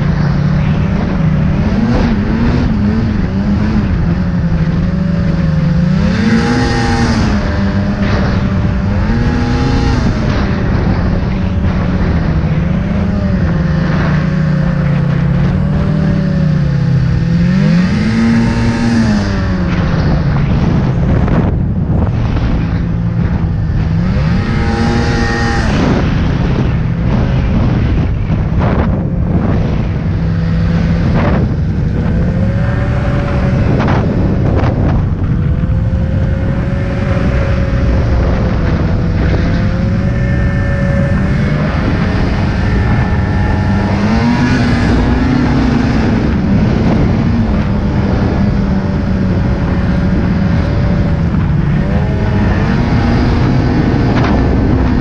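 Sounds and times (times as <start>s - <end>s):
rushing wind and track: 0.0s - 55.0s
snowmobile engine running: 0.0s - 55.0s.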